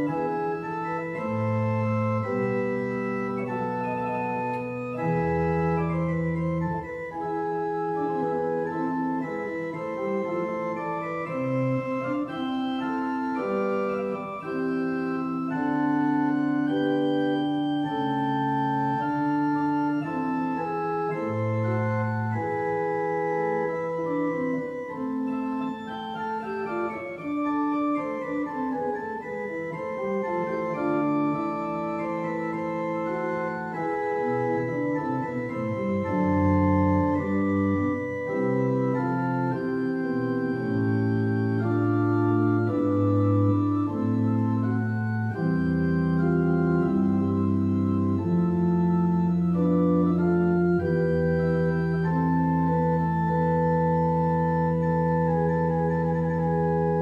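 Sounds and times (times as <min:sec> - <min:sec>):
solo keyboard piece: 0:00.0 - 0:57.0.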